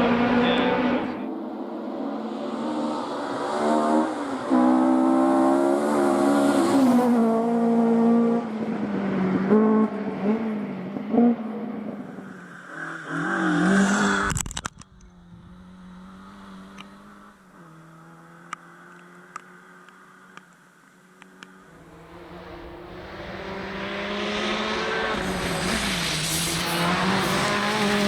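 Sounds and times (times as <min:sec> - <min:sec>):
rally car engine revving: 0:00.0 - 0:20.5, 0:21.4 - 0:28.0.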